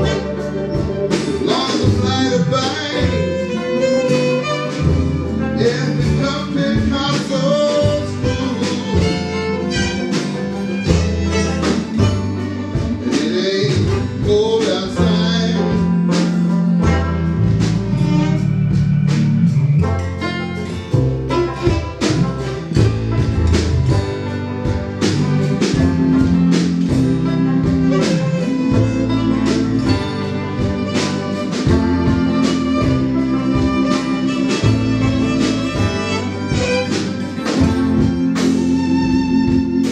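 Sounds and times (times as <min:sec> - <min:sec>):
live country band playing: 0:00.0 - 0:39.9.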